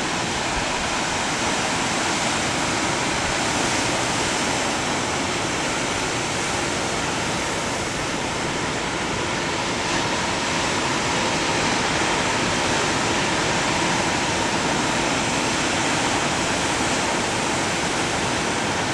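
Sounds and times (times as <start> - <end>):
ocean surf rushing: 0.0 - 18.9.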